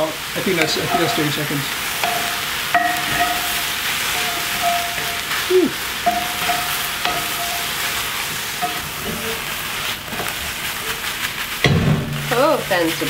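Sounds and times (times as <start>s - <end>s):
mushrooms sizzling in frying pan: 0.0s - 13.0s
spatula scraping pan: 0.2s - 13.0s.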